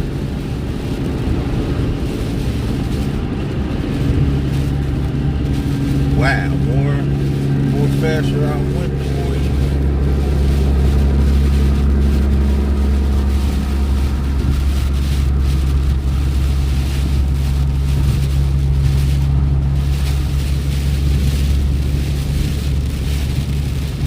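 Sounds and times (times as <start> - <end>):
engine and tyre drone: 0.0 - 24.0.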